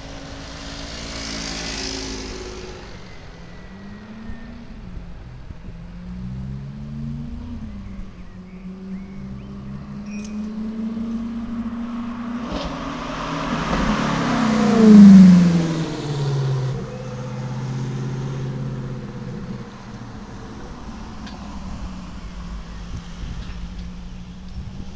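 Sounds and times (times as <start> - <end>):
sports car driving past: 0.0 - 4.8, 6.0 - 24.9.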